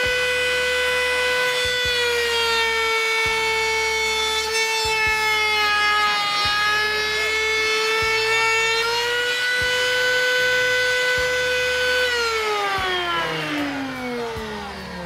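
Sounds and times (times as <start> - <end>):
electric router motor whining: 0.0 - 15.0.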